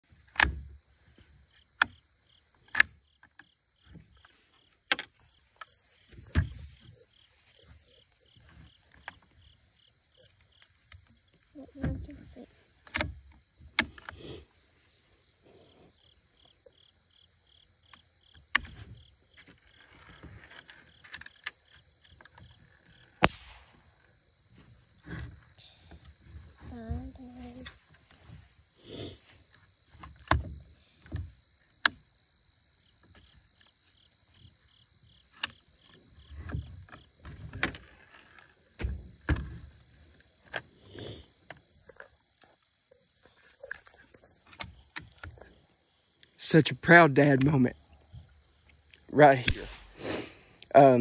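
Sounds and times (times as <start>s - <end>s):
insects chirring: 0.0s - 51.0s.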